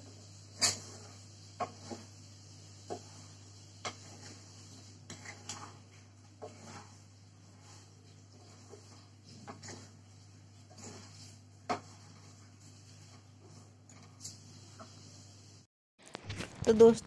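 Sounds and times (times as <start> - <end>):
wooden spatula scraping a pan: 0.0 - 15.7.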